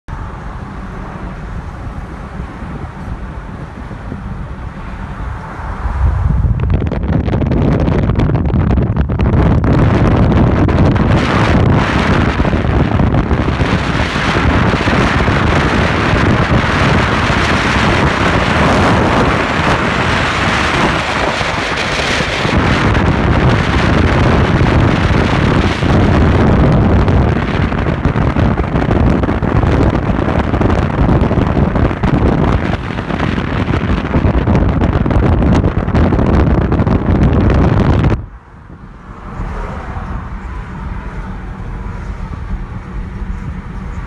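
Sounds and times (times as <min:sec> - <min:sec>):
car road noise: 0:00.1 - 0:44.0
wind buffeting microphone: 0:00.7 - 0:44.0.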